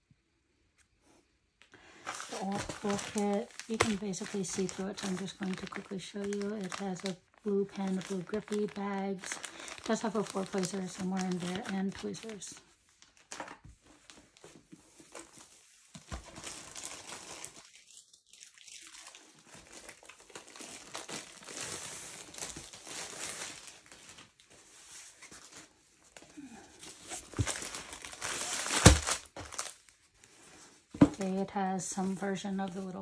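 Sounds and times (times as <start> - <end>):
plastic packaging crinkling: 1.7 - 33.0.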